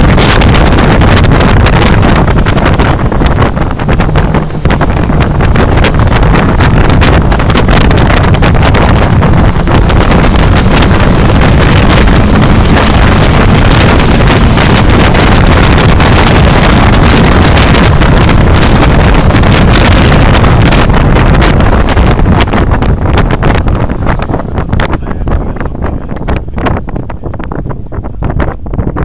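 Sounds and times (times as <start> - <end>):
car engine running hard: 0.0 - 29.0
wind buffeting microphone: 0.0 - 29.0.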